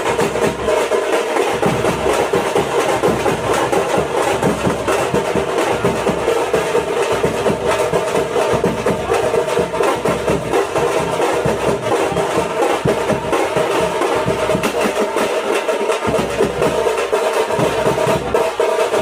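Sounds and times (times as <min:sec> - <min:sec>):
frame drums struck with sticks: 0:00.0 - 0:19.0.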